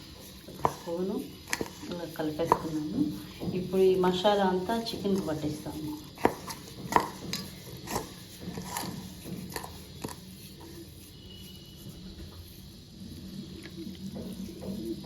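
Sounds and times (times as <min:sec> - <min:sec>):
hands squishing wet paste: 0:00.0 - 0:15.0.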